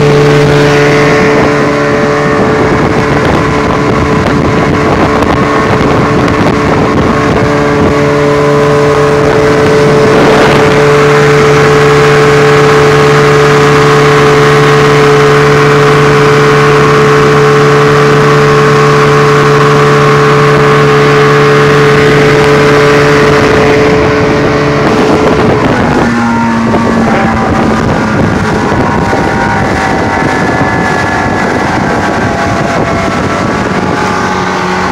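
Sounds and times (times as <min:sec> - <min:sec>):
outboard engine running: 0:00.0 - 0:34.9
water spray and wake rushing: 0:00.0 - 0:34.9
wind rushing: 0:00.0 - 0:34.9.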